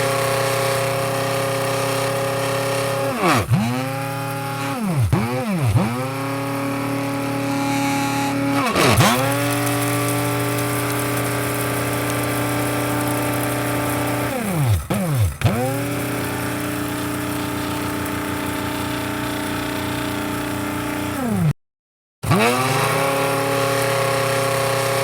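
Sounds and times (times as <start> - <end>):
coffee grinder whirring: 0.0 - 21.5, 22.2 - 25.0.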